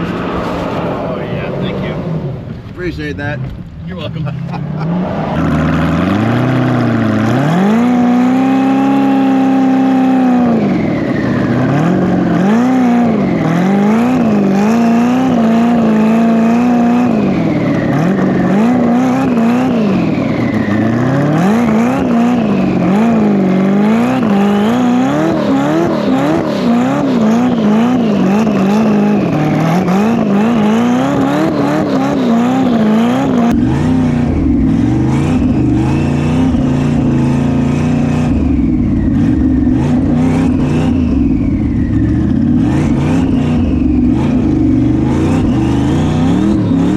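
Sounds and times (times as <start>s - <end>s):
car engine revving hard: 0.0s - 46.9s.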